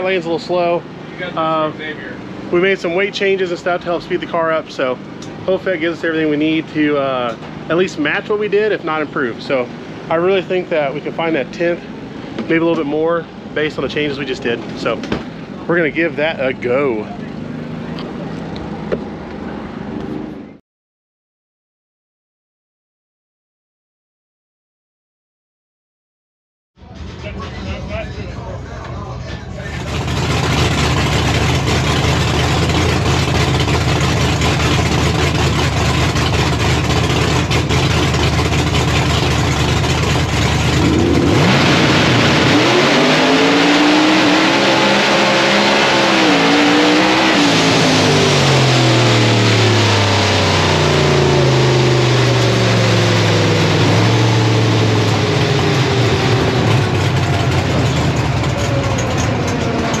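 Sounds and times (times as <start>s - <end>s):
drag car engine accelerating: 0.0s - 20.6s, 26.9s - 60.0s.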